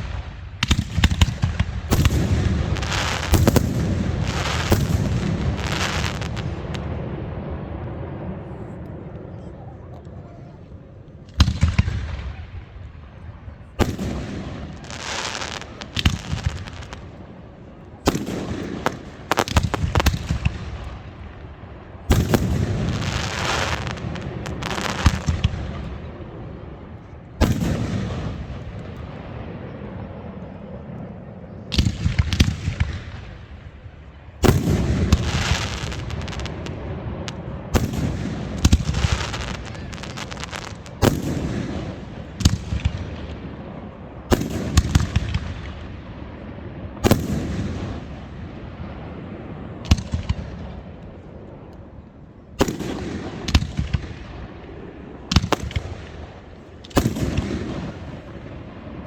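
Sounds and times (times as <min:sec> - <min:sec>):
fireworks booming: 0:00.0 - 0:08.9, 0:11.3 - 0:30.6, 0:31.7 - 0:51.3, 0:52.6 - 0:59.0.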